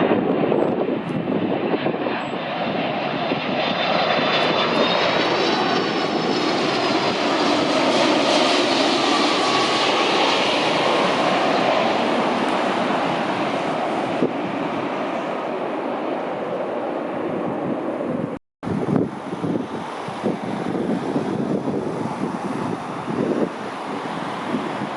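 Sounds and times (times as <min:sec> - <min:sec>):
jet airliner engine roar: 0:00.0 - 0:24.9.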